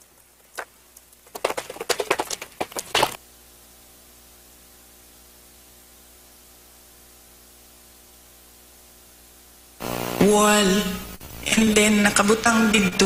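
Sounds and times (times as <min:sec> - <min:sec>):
faint hum: 0:00.0 - 0:13.0
steady hiss: 0:00.0 - 0:13.0.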